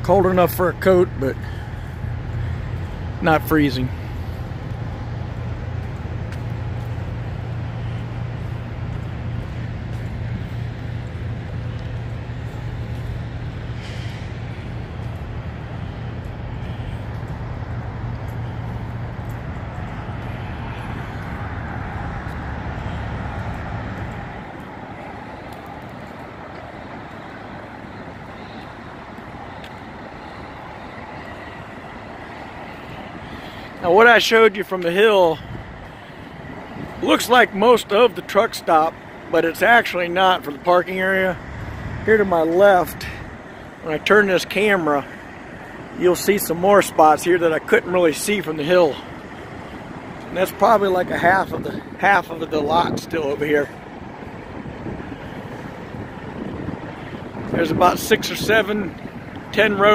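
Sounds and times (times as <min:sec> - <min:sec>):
diesel truck engine idling: 0:00.0 - 0:59.9
distant vehicle noise: 0:00.0 - 0:59.9.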